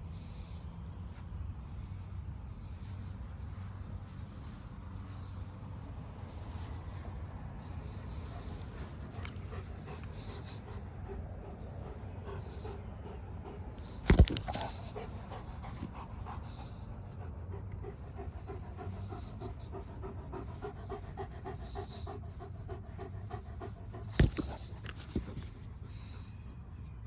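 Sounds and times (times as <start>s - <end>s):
dog panting: 2.4s - 27.0s.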